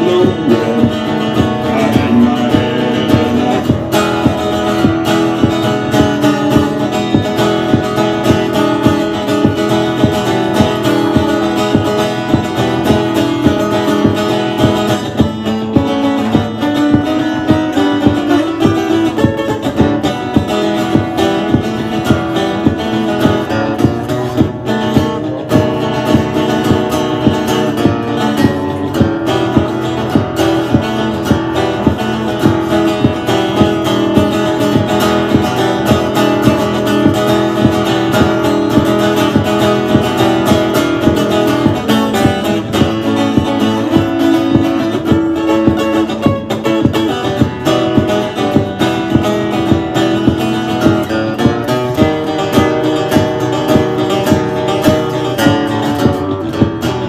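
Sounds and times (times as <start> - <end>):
country guitar playing: 0.0 - 57.0.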